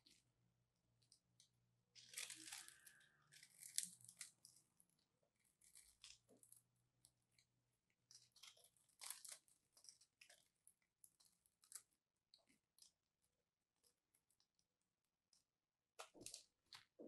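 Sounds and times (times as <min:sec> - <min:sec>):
blade cutting soap: 0:00.0 - 0:17.0.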